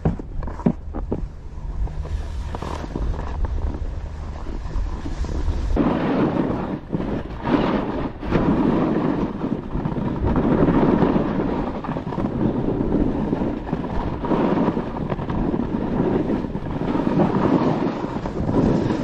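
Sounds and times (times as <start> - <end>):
sliding over packed snow: 0.0 - 19.0
wind rushing over microphone: 0.0 - 19.0.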